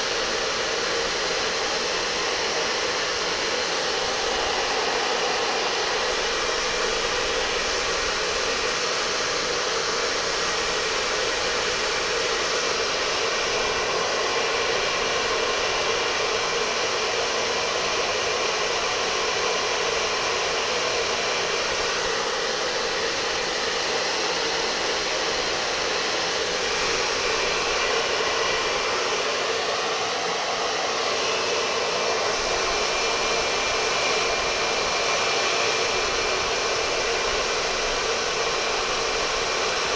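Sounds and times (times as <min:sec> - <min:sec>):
electric blower rushing air: 0:00.0 - 0:39.9.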